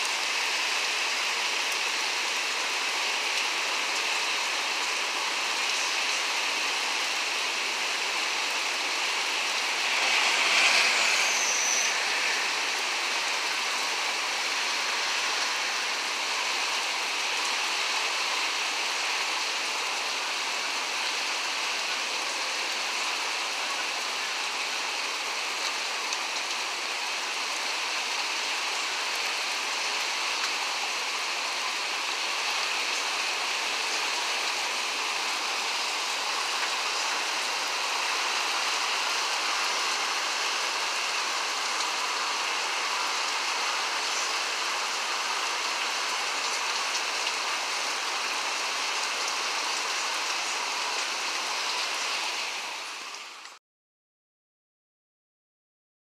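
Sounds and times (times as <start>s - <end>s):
heavy wind-driven rain: 0.0s - 53.6s.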